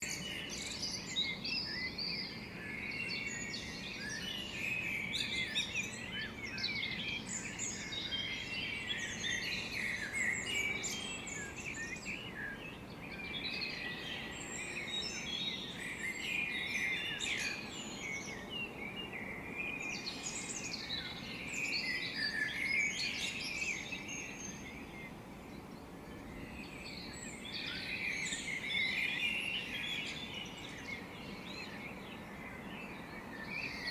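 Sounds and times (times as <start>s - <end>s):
faint steady background noise: 0.0s - 33.9s.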